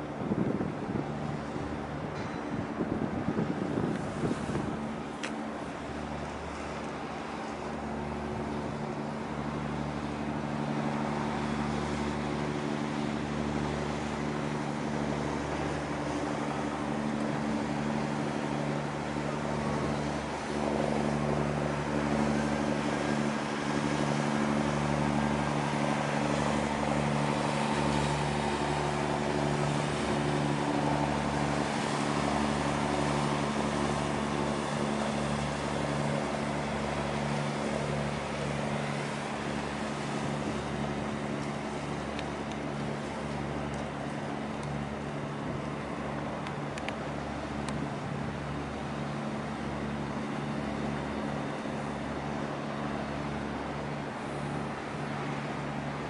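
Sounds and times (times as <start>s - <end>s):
tugboat diesel engines droning: 0.0s - 56.0s.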